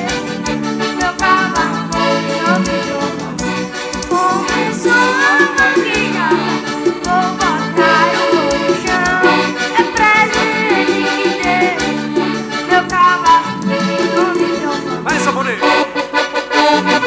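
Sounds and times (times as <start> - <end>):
accordions playing lively tune: 0.0 - 17.0.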